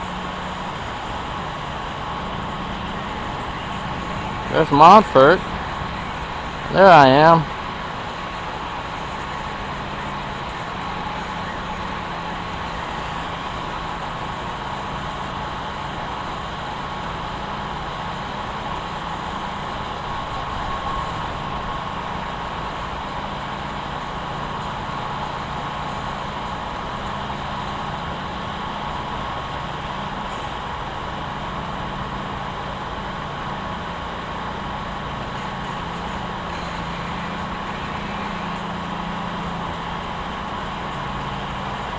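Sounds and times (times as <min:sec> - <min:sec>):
low engine hum: 0:00.0 - 0:41.9.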